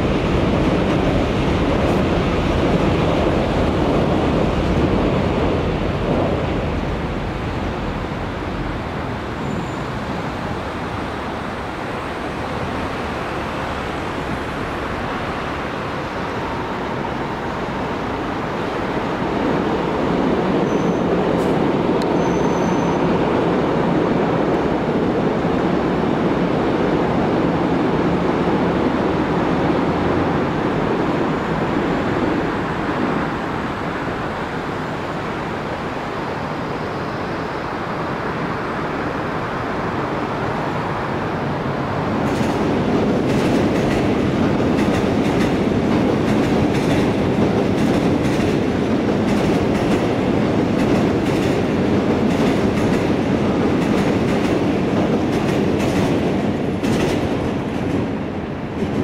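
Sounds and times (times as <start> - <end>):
train rumbling over steel bridge: 0.0 - 59.0.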